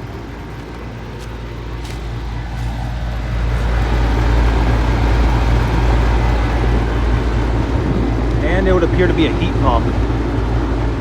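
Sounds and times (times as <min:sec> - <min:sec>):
compressor hum: 0:00.0 - 0:11.0
fan rushing air: 0:00.0 - 0:11.0.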